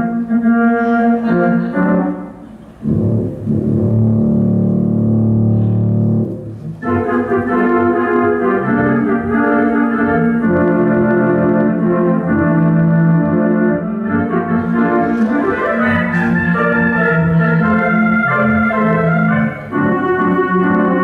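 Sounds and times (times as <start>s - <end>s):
theatre organ chords: 0.0s - 21.0s.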